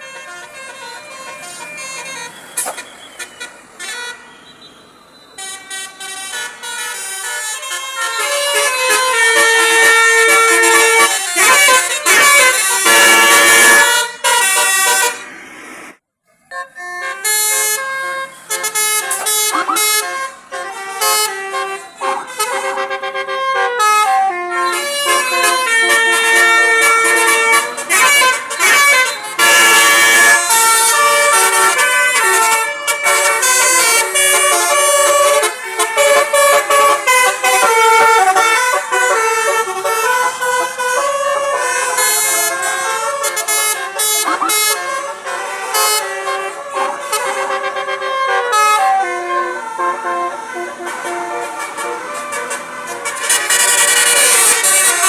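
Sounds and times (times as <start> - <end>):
multi-tone bus air horn tune: 0.0 - 55.0.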